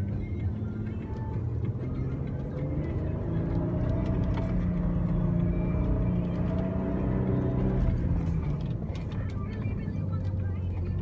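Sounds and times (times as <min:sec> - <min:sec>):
car engine droning under load: 0:00.0 - 0:11.0.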